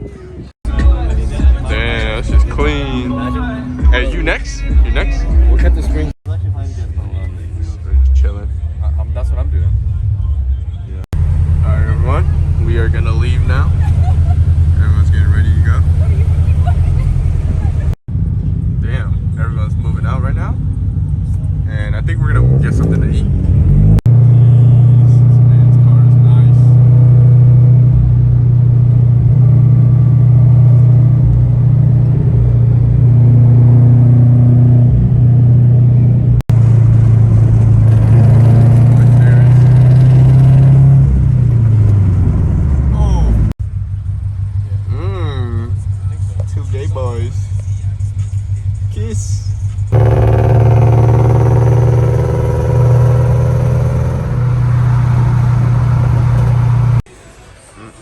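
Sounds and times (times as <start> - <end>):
car engines rumbling: 0.0 - 48.8, 49.9 - 57.1.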